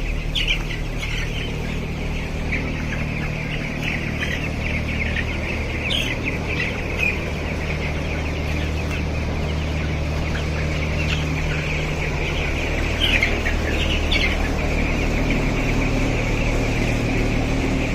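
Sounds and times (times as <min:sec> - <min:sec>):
chickens peeping and chirping: 0:00.0 - 0:17.9
steady low hum: 0:00.0 - 0:17.9.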